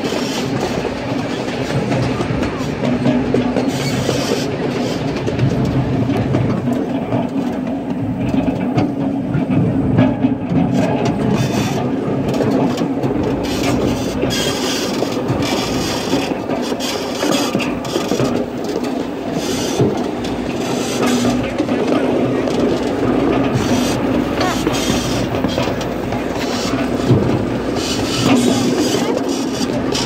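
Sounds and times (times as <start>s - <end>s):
clicks over rails: 0.0s - 30.0s
train wheels rumbling on rails: 0.0s - 30.0s.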